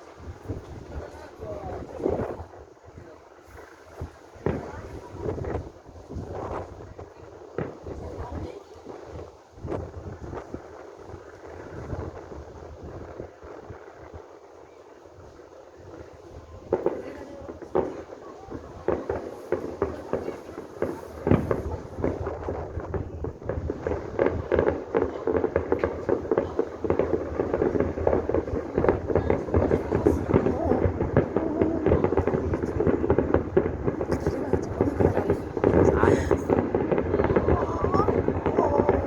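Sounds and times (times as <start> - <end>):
fireworks bursting: 0.0 - 14.2, 15.2 - 39.0.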